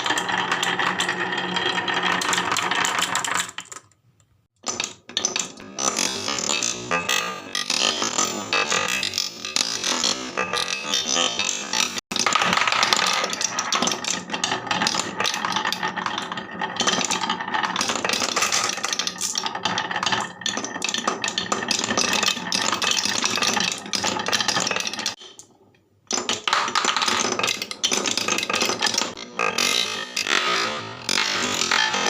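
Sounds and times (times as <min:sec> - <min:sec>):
marbles clattering down wooden run: 0:00.0 - 0:04.0, 0:04.6 - 0:25.2, 0:26.1 - 0:32.0.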